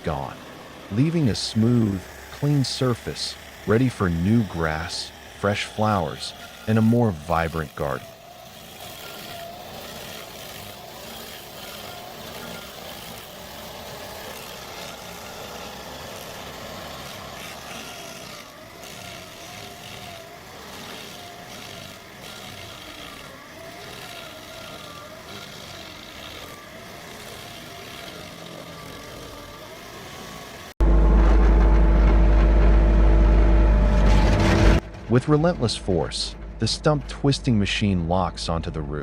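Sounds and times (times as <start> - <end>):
stump grinder engine running: 0.0 - 37.0.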